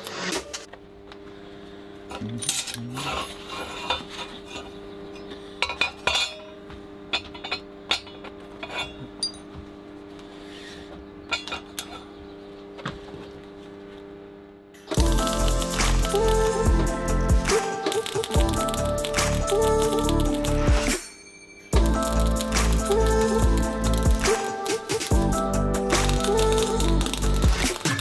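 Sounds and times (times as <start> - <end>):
steady low hum: 0.7 - 21.0, 21.8 - 27.8.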